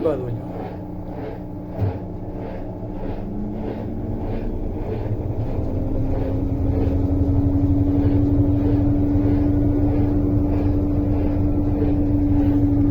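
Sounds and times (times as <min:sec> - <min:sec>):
washing machine motor whine: 0:00.0 - 0:12.9.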